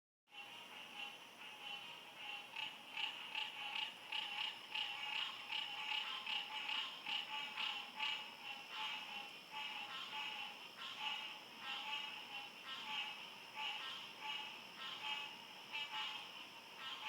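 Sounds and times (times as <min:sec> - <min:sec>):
frogs calling: 0:00.4 - 0:17.0
high insect whine: 0:00.4 - 0:17.0.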